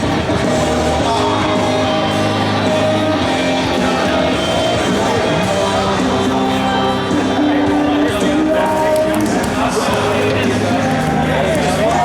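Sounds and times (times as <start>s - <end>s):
electric guitar: 0.0s - 12.0s
loud rock music: 0.0s - 12.0s
person singing: 0.0s - 12.0s.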